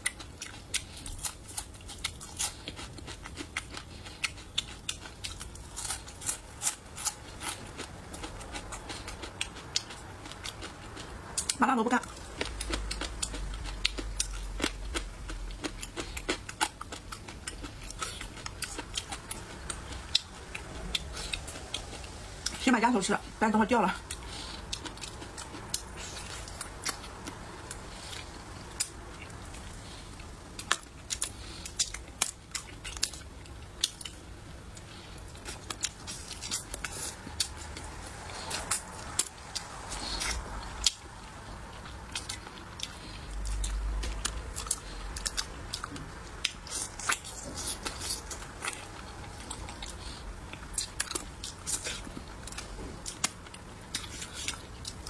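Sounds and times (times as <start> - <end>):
biting and chewing: 0.0 - 22.6, 24.0 - 41.1, 41.7 - 55.0.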